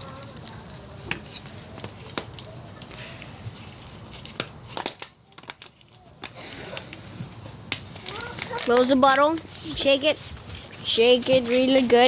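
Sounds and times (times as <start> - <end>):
paper and plastic bottle crinkling: 0.0 - 12.0.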